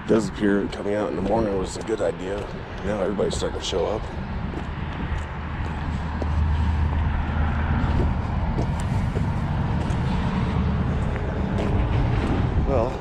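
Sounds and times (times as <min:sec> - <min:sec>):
car engine humming: 0:00.0 - 0:12.7.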